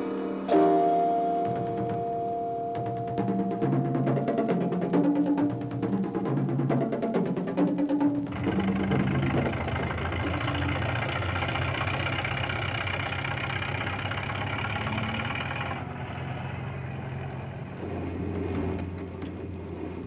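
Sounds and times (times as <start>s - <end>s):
diesel engine running: 1.5s - 20.0s.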